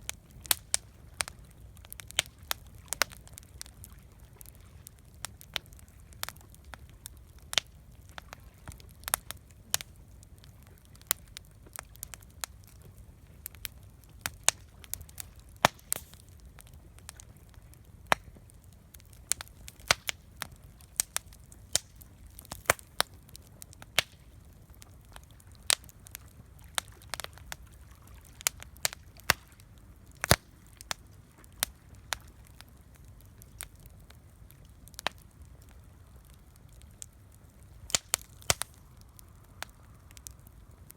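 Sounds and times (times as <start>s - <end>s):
campfire crackling: 0.0s - 40.9s
faint low rumble: 0.0s - 40.9s.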